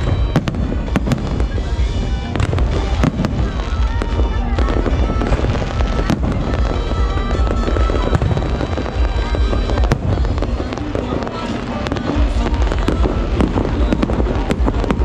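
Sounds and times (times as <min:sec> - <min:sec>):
fireworks bangs and crackles: 0:00.0 - 0:15.0
music: 0:00.0 - 0:15.0.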